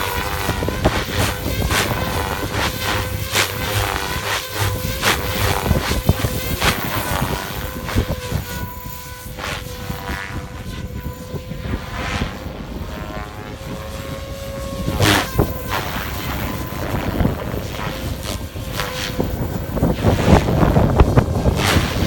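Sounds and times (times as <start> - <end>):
rc helicopter motor whine: 0.0 - 22.0
wind rumble on microphone: 0.0 - 22.0.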